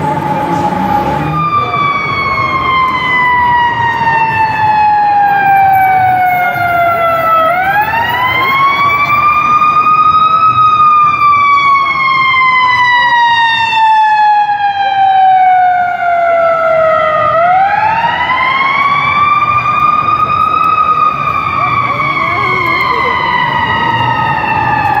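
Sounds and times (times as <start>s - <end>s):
ambulance siren wailing: 0.0s - 25.0s.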